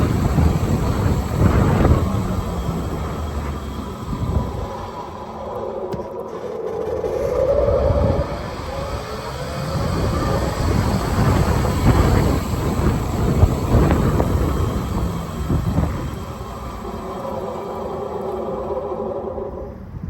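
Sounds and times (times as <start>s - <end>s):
faint rising whine: 0.0s - 20.0s
wind buffeting microphone: 0.0s - 20.0s.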